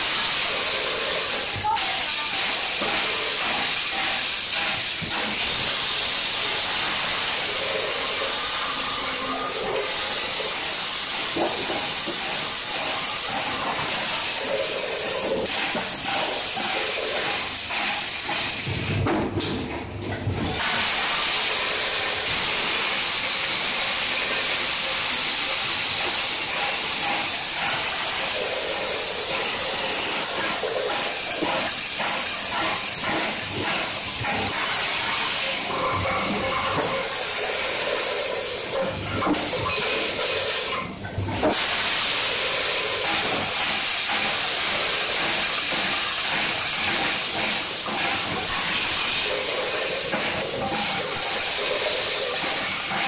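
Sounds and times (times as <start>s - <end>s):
packing machine hiss: 0.0s - 19.0s, 20.5s - 53.0s.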